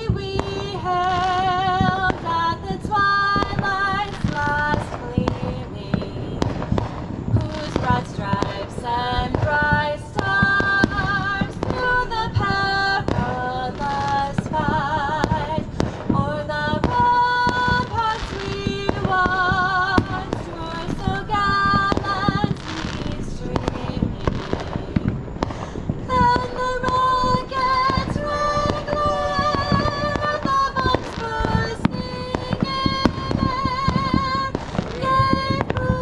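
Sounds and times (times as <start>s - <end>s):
fireworks bursting and crackling: 0.0s - 36.0s
song with sung melody: 0.0s - 36.0s.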